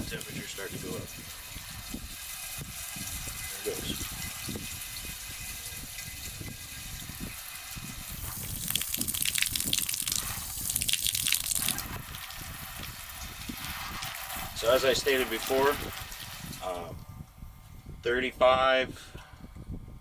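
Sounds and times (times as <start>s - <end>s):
shower head water spraying: 0.0s - 16.8s.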